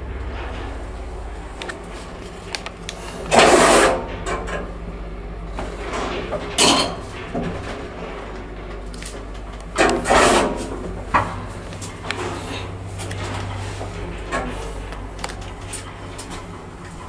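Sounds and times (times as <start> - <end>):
elevator drive humming: 0.0 - 17.0
elevator rattling burst: 0.0 - 17.0.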